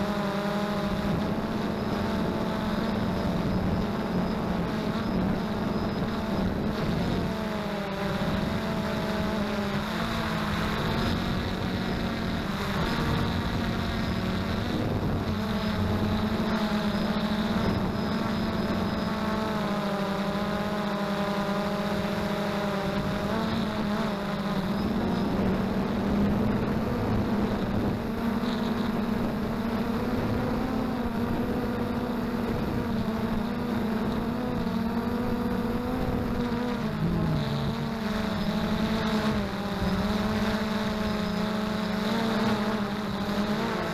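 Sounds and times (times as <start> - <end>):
drone motors buzzing: 0.0 - 43.9.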